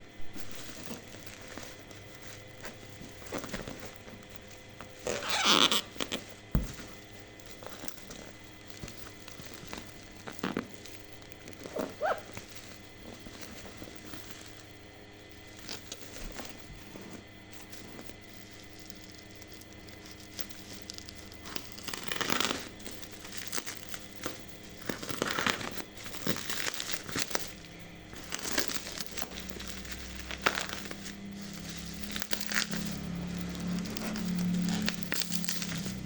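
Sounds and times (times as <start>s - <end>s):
packaging crinkling and rustling: 0.1s - 36.0s.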